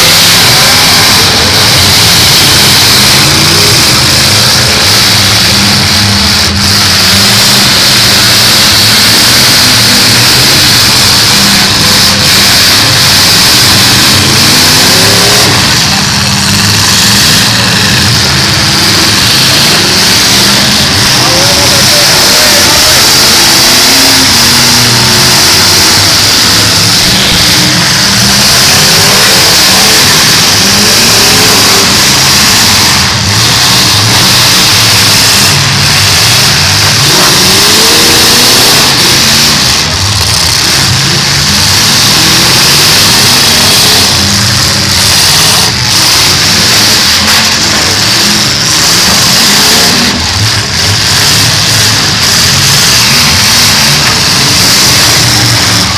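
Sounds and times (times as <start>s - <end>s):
car engines revving: 0.0s - 55.9s.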